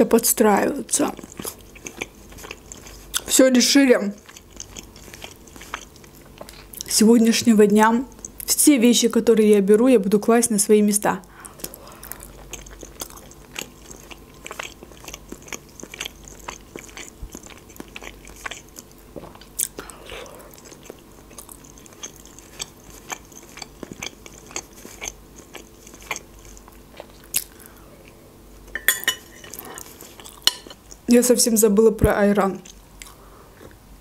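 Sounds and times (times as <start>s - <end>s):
chewing and wet mouth sounds: 0.8s - 8.6s, 11.2s - 28.2s, 28.8s - 31.1s, 32.6s - 33.8s.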